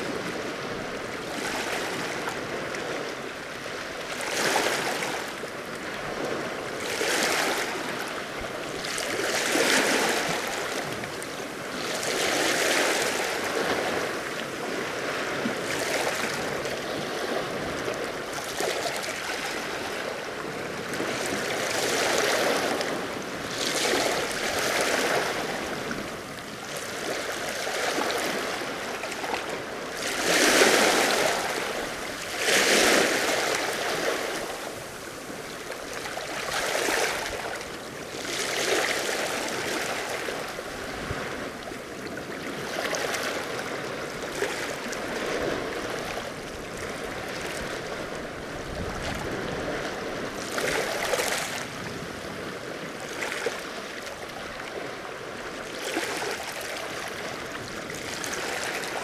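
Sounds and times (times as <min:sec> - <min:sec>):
waves washing against rocky shore: 0:00.0 - 0:59.0.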